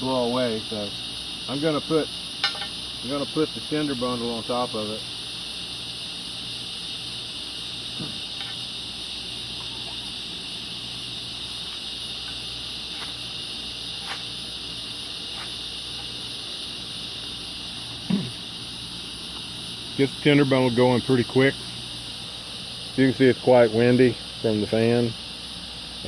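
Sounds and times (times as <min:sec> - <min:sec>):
electric fan blowing: 0:00.0 - 0:26.0.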